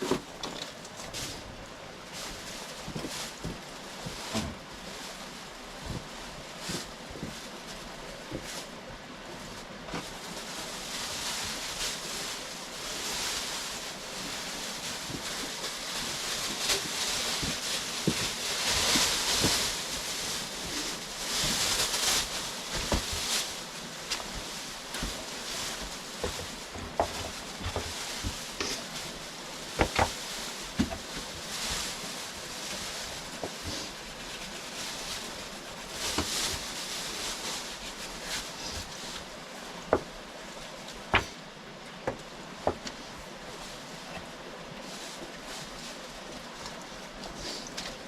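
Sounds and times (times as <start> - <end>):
plastic tarp rustling: 0.0 - 48.0.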